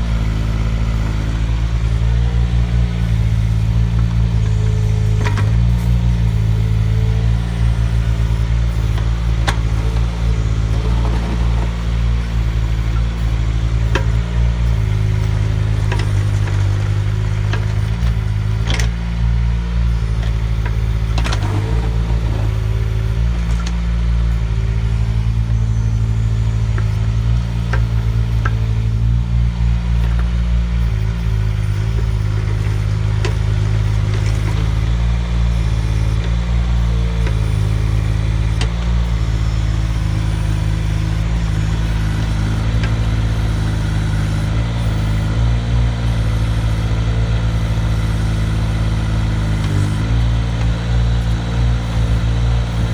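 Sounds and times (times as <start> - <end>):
excavator engine running: 0.0 - 52.9
whine shifting in pitch: 0.0 - 52.9.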